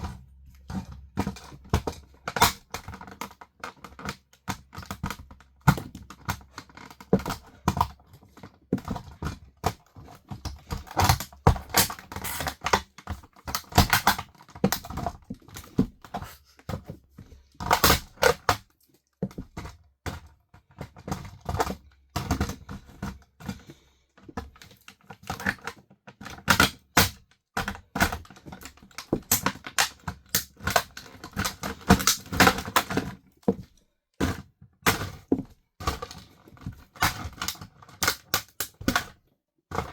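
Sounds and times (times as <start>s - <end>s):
plastic toy cracking under heels: 0.6s - 17.0s, 17.6s - 23.6s, 24.4s - 39.9s.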